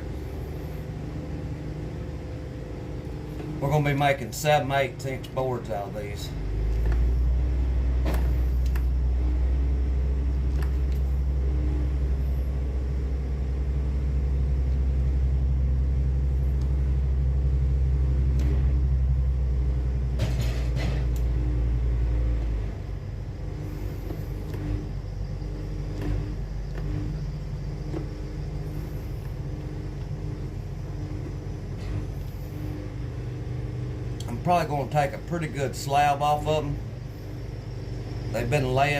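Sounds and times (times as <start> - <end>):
sawmill engine rumbling: 0.0 - 38.9.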